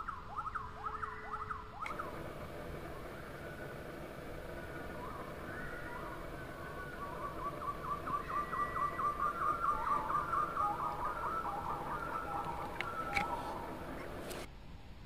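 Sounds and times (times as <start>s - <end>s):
bird chirping rapidly: 0.5s - 14.5s.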